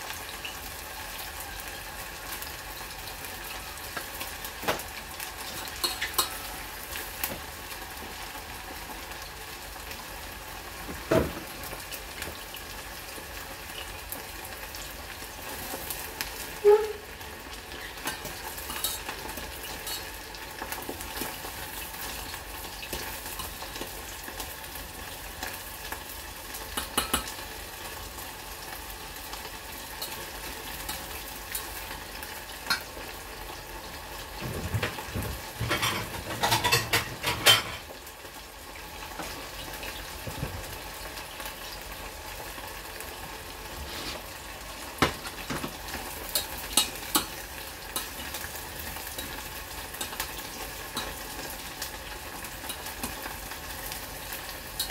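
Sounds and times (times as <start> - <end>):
food sizzling in oil: 0.0 - 54.9.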